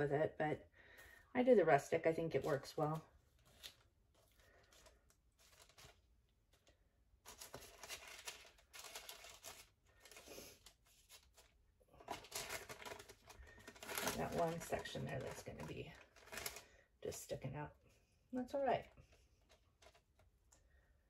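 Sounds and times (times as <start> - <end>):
parchment paper crinkling: 2.0 - 16.9, 18.9 - 20.9.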